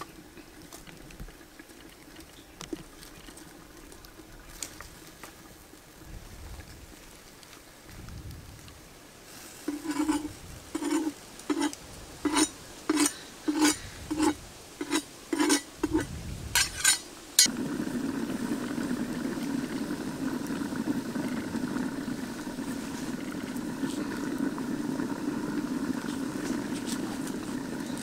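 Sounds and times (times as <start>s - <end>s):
wood fire hissing and crackling: 0.0s - 28.0s.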